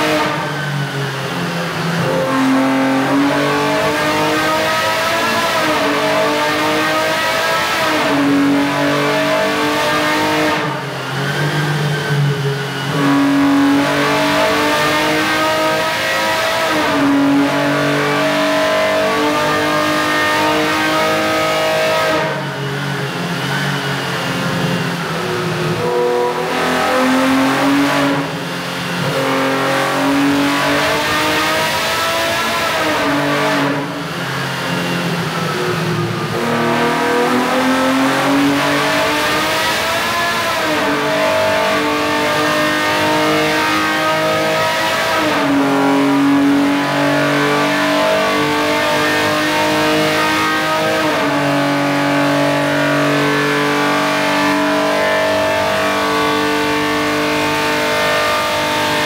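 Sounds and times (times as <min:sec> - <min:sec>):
racing engine revving: 0:00.0 - 0:59.0.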